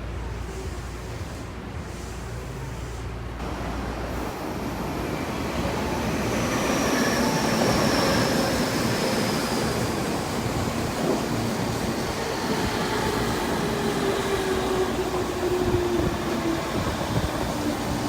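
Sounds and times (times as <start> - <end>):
electric train rumbling on rails: 0.0 - 18.0.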